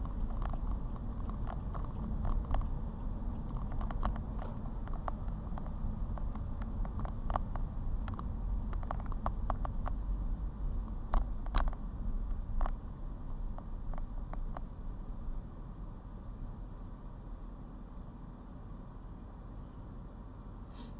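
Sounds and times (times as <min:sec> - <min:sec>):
car road rumble: 0:00.0 - 0:20.9.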